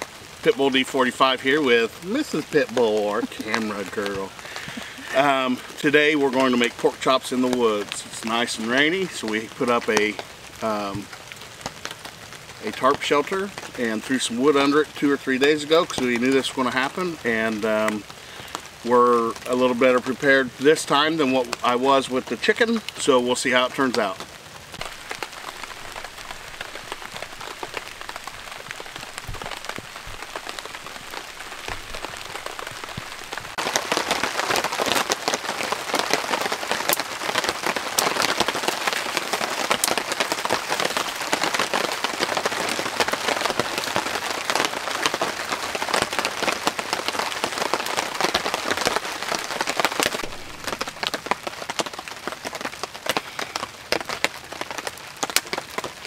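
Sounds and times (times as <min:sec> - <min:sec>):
rain pattering on a tarp: 0:00.0 - 0:56.0.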